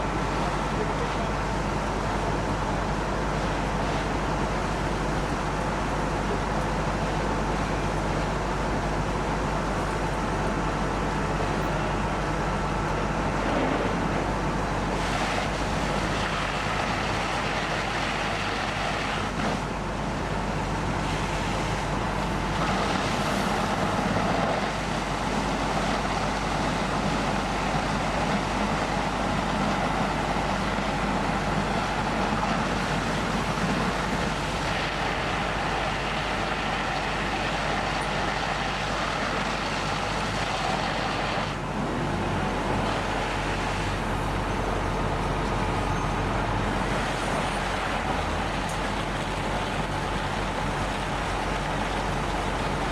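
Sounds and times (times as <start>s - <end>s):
fire truck engines droning: 0.0s - 52.9s.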